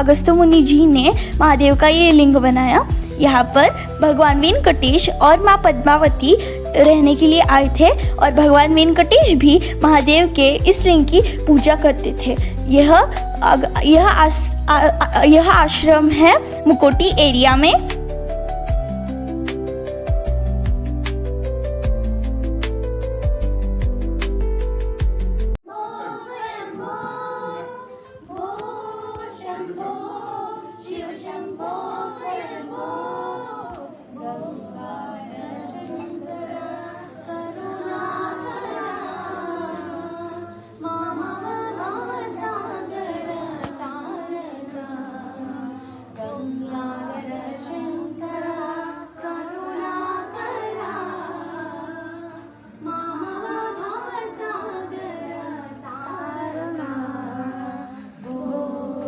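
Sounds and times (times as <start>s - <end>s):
voices singing slow melody: 0.0s - 23.4s, 25.6s - 59.0s.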